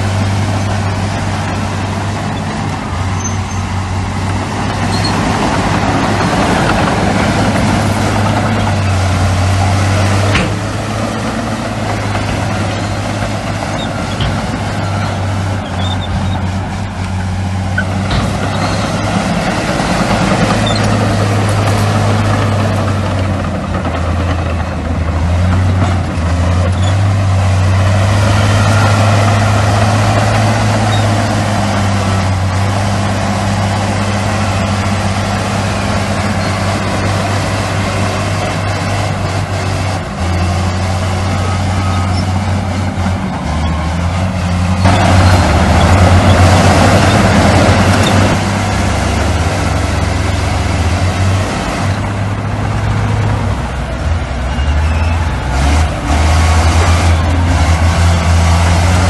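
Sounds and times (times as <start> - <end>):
heavy diesel machinery engines: 0.0 - 59.0.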